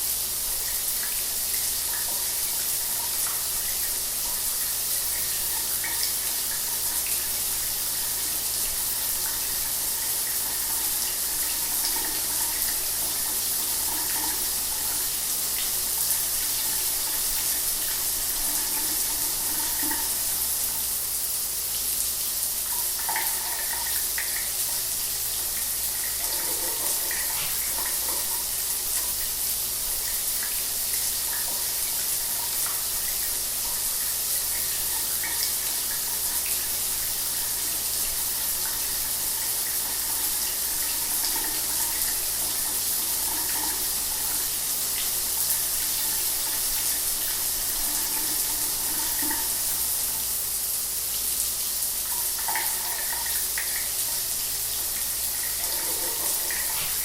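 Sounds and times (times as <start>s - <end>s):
shower water running: 0.0s - 57.0s.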